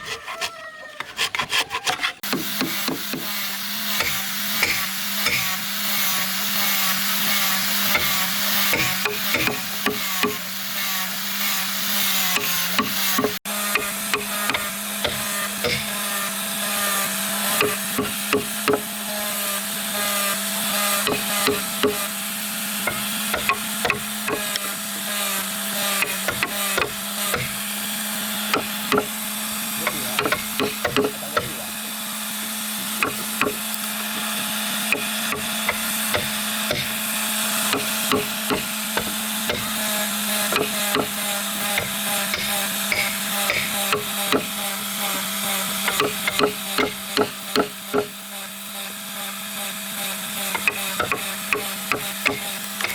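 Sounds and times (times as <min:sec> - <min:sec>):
continuous grinding: 0:00.0 - 0:52.9.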